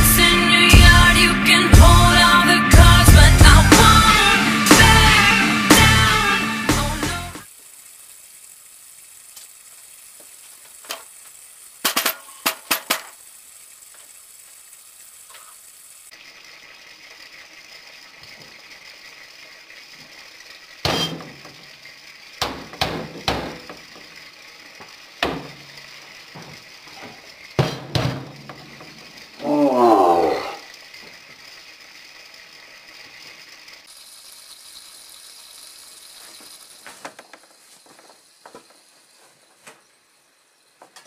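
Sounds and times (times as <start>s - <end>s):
faint steady hiss: 7.4s - 41.0s.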